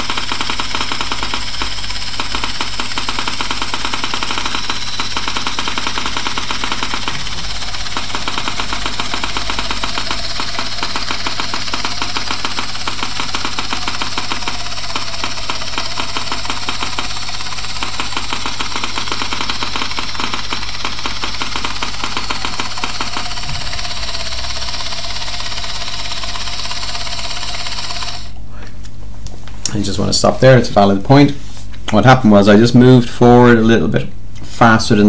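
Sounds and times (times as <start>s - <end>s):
scanner clicking rapidly: 0.0s - 28.4s
steady low hum: 0.0s - 35.0s.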